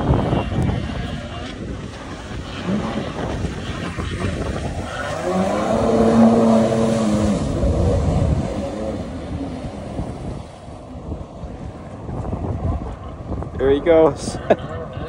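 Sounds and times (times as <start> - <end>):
jet ski engine running: 0.0 - 15.0
wind and water noise: 0.0 - 15.0.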